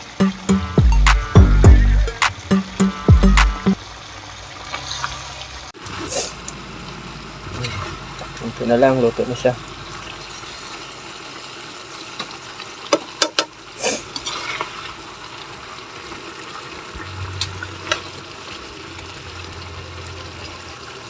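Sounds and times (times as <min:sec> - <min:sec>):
bubbling cooking pot: 0:03.8 - 0:21.0.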